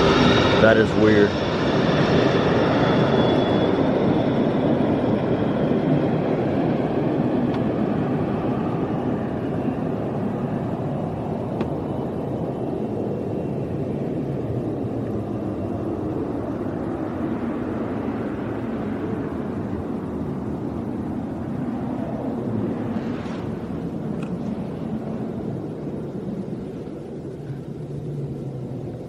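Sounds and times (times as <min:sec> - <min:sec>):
jet airplane flying past: 0:00.0 - 0:29.0.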